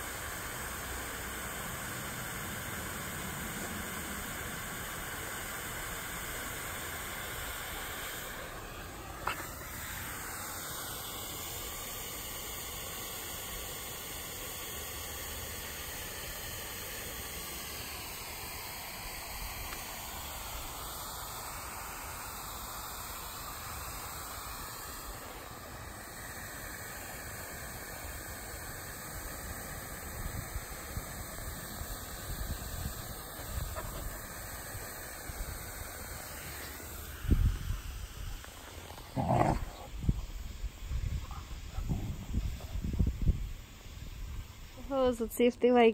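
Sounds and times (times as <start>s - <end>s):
sprinkler spraying water hiss: 0.0s - 45.9s.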